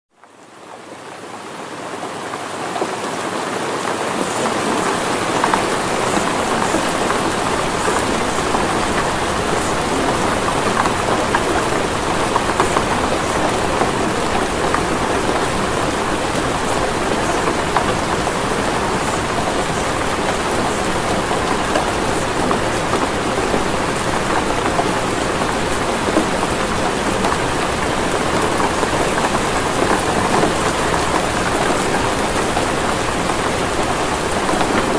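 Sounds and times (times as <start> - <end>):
heavy rainfall: 0.1 - 34.9.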